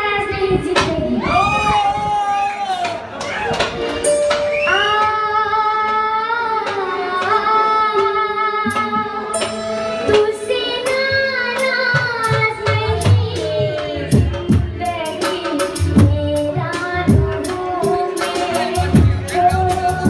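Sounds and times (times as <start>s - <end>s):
boy singing into a microphone: 0.0s - 1.7s, 4.3s - 20.0s
tabla drum strokes: 3.6s - 20.0s.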